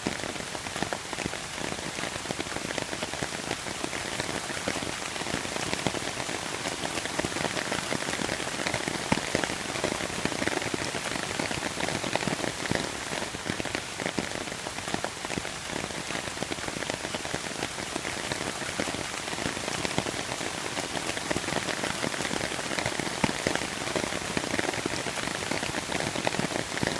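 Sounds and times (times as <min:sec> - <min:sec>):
rain drops pattering on surfaces: 0:00.0 - 0:26.9.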